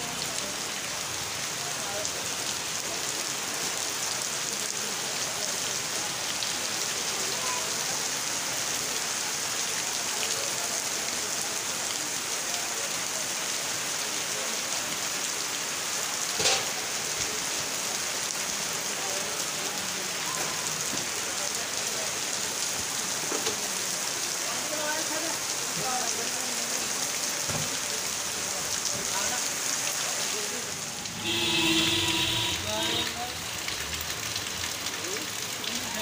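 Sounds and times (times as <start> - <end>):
heavy rain on wet street: 0.0 - 36.0.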